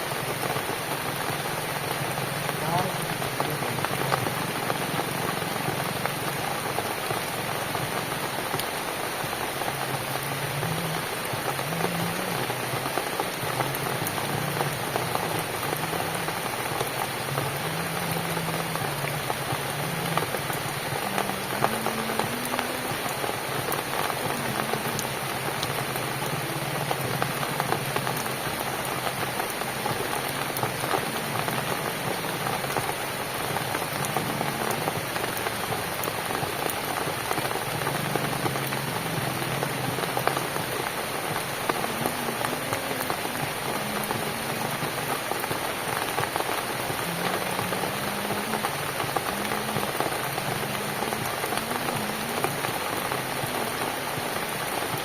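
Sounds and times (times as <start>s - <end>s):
rain pattering on cabin: 0.0s - 55.0s.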